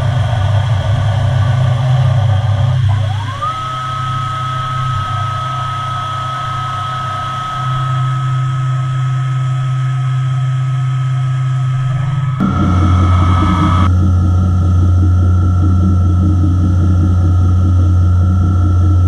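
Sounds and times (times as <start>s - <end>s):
low machine hum: 0.0s - 19.0s
machine drive whine: 0.0s - 19.0s.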